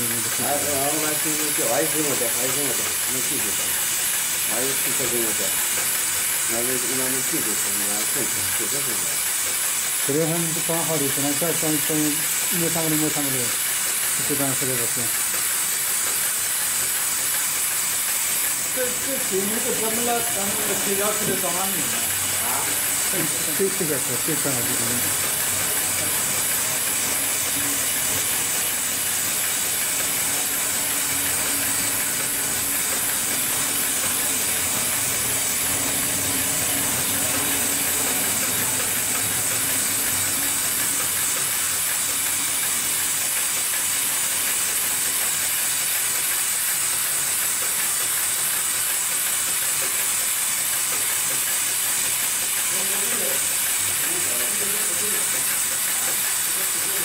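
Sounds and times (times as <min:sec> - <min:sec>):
industrial sewing machine running: 0:00.0 - 0:57.0.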